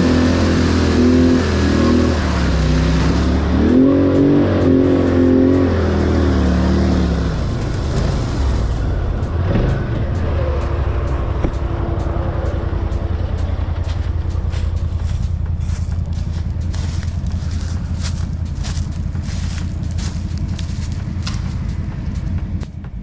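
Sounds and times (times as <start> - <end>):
quad bike engine revving: 0.0 - 22.7.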